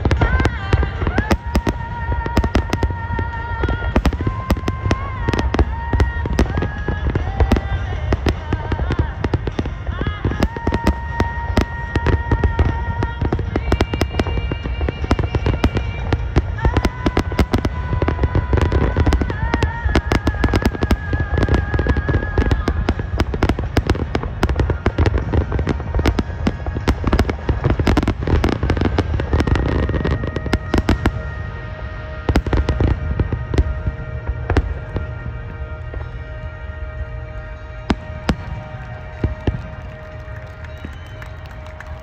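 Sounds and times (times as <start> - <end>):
fireworks bursting: 0.0 - 42.0
fireworks crackling: 0.0 - 42.0.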